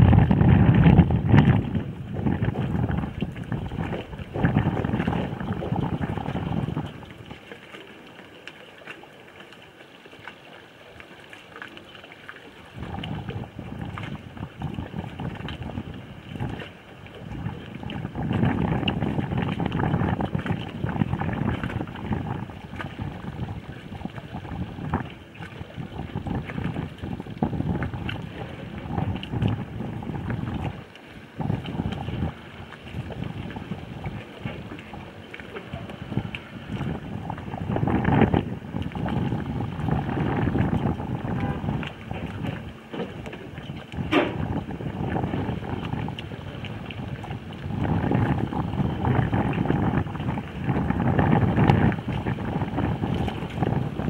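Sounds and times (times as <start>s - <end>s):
wind buffeting microphone: 0.0s - 7.9s, 12.5s - 54.0s.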